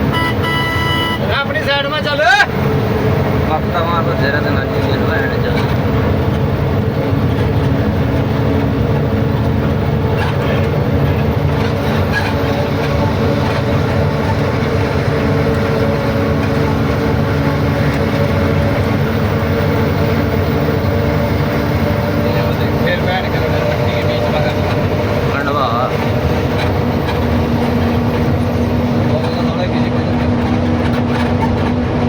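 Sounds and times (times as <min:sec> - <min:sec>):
road noise: 0:00.0 - 0:32.0
truck engine running: 0:00.0 - 0:32.0
truck rattling: 0:00.0 - 0:32.0.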